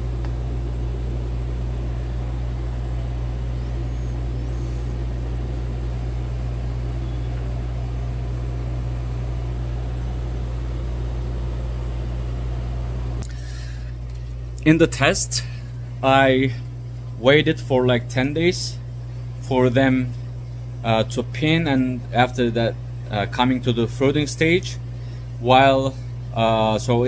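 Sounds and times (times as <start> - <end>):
low mechanical hum with hiss: 0.0 - 27.0.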